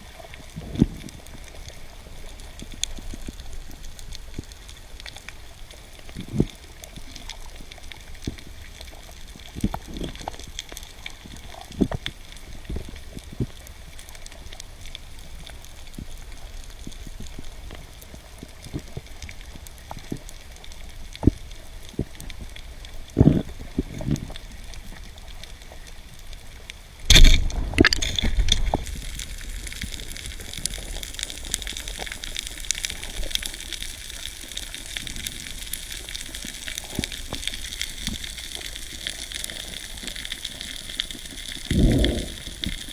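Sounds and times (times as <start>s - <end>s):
underwater water noise: 0.0s - 42.9s.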